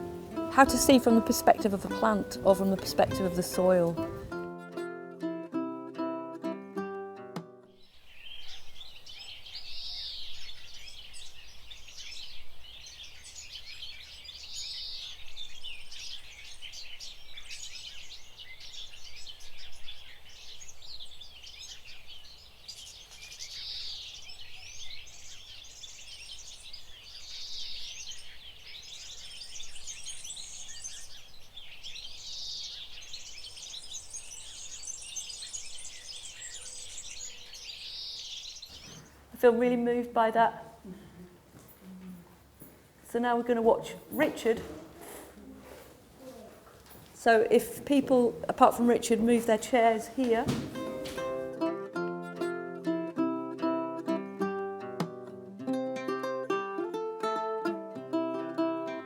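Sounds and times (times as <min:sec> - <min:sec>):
small birds chirping: 0:00.0 - 0:04.4, 0:07.7 - 0:55.5.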